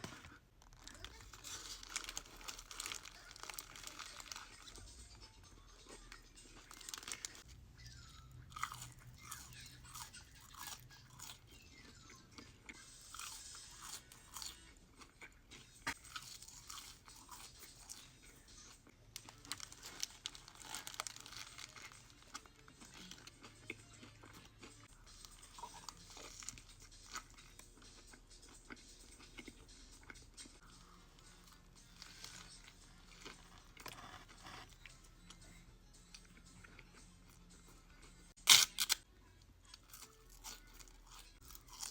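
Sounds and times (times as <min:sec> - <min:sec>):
chewing and crunching food: 0:00.0 - 0:41.9.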